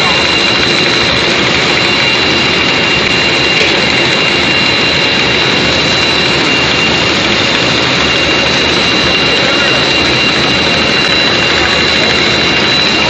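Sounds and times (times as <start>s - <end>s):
factory machinery running: 0.0s - 13.0s
high-pitched machine whines: 0.0s - 13.0s.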